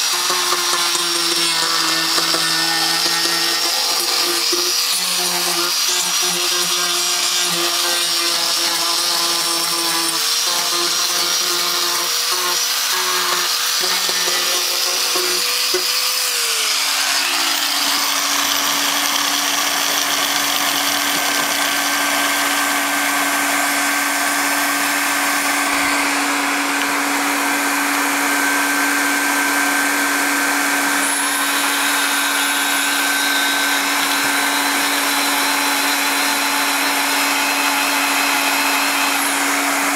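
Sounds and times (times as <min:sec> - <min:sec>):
angle grinder sanding plastic: 0:00.0 - 0:39.9.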